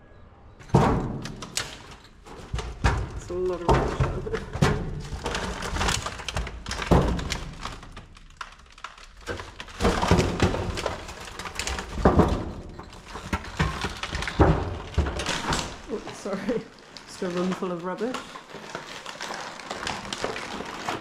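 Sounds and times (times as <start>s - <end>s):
footsteps crunching over debris: 1.5s - 21.0s.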